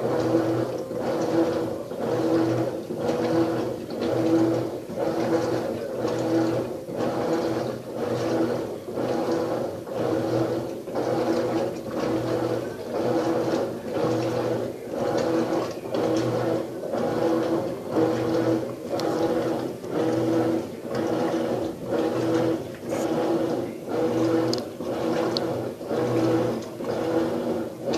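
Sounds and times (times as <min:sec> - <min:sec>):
washing machine motor humming: 0:00.0 - 0:27.9
water swishing back and forth: 0:00.0 - 0:27.9.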